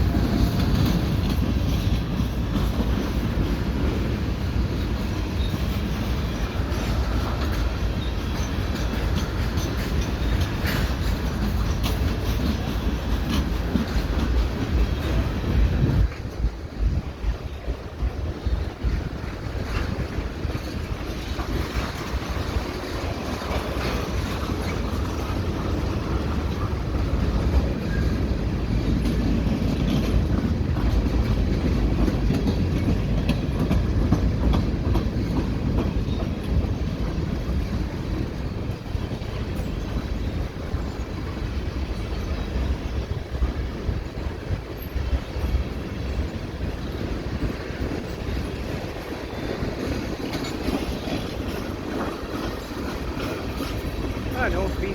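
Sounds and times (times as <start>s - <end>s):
train wheels rumbling on rails: 0.0s - 54.9s
wheels clicking over rail joints: 0.0s - 54.9s.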